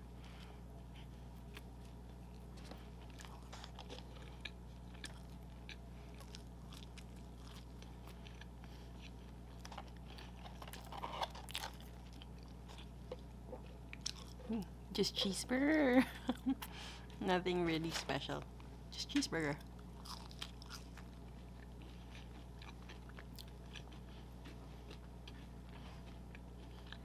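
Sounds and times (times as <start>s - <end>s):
person chewing food: 0.0s - 14.8s, 19.6s - 27.0s
steady low hum: 0.0s - 27.0s.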